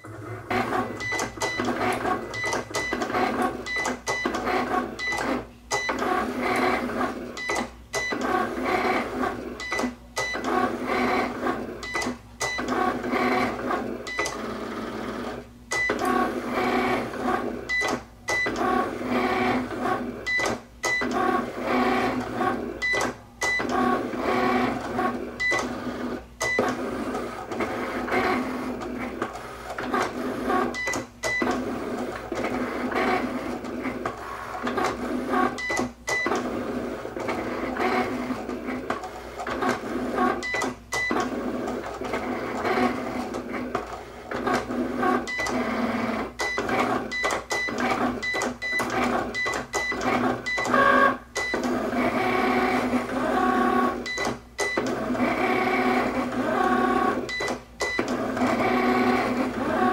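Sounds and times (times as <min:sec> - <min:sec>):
cutting machine motors whining: 0:00.0 - 0:59.9.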